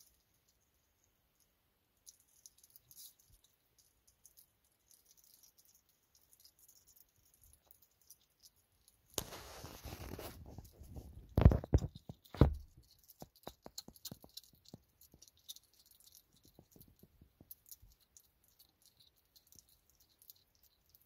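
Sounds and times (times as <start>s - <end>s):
hedgehog chewing wet food: 0.0s - 21.0s.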